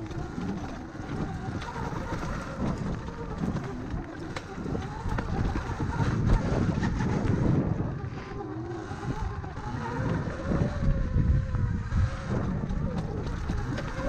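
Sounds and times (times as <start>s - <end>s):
electric motor whine: 0.0s - 14.0s
rumble of bike and tyres: 0.0s - 14.0s
wind buffeting microphone: 0.0s - 14.0s.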